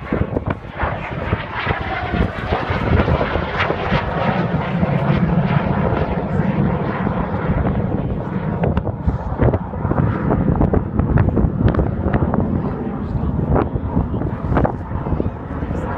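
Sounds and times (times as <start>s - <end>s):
jet engine whine falling in pitch: 0.0s - 15.9s
jet flying past overhead: 0.0s - 15.9s.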